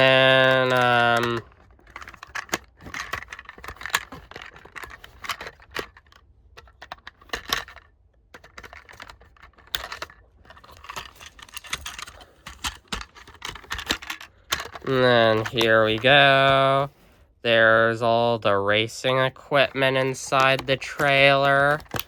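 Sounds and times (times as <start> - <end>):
toy parts clicking and rattling: 0.0 - 16.9, 19.0 - 22.0.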